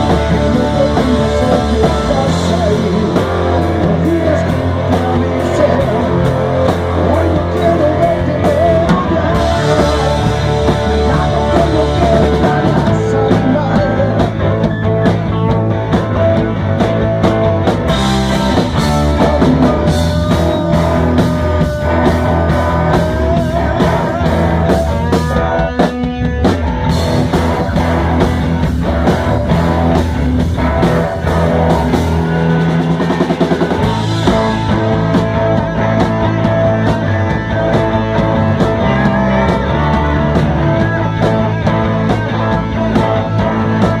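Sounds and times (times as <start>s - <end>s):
bass line: 0.0s - 44.0s
guitar: 0.0s - 44.0s
rock music: 0.0s - 44.0s
steady drum beat: 0.0s - 44.0s.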